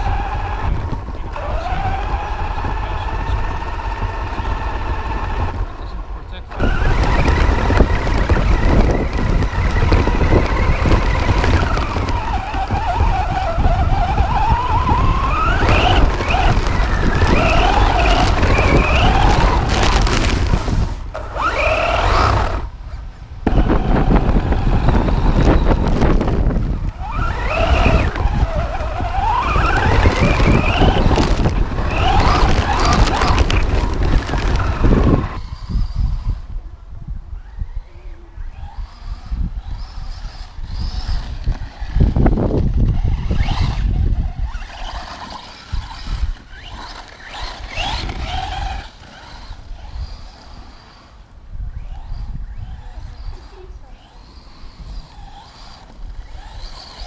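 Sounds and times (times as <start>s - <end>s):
tyres rumbling on road: 0.0s - 35.8s, 38.6s - 57.0s
rc car motor whine: 0.0s - 57.0s.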